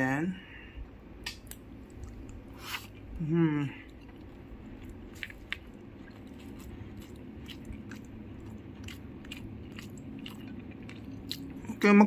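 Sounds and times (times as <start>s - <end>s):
person chewing food: 1.2s - 3.2s, 3.8s - 11.8s.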